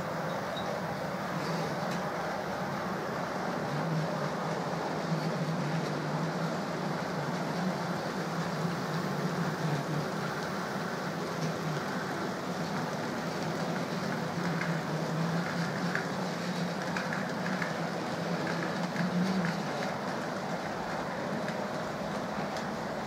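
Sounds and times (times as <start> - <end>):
wheels rattling on track: 0.0 - 23.0.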